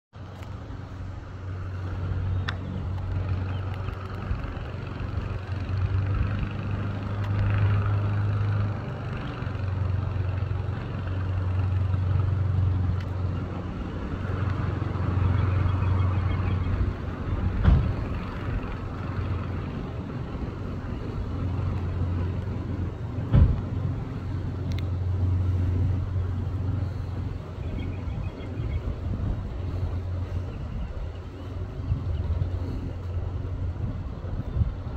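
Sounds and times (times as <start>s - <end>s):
low motor hum: 0.1s - 34.9s.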